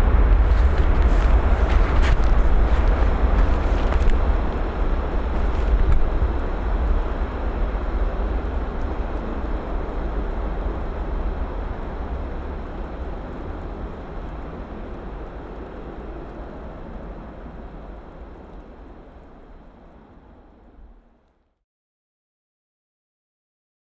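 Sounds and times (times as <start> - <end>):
jet airliner engine rumble: 0.0 - 21.5.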